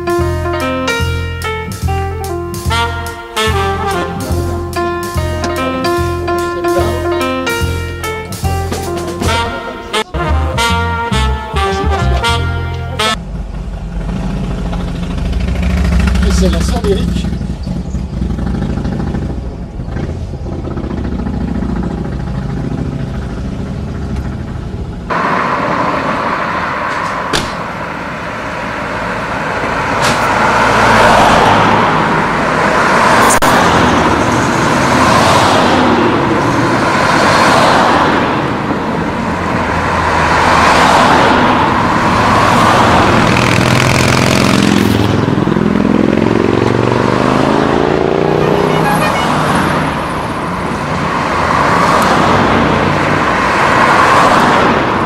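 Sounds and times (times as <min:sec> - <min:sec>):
car engines running: 0:00.0 - 0:55.0
cars driving past: 0:00.6 - 0:55.0.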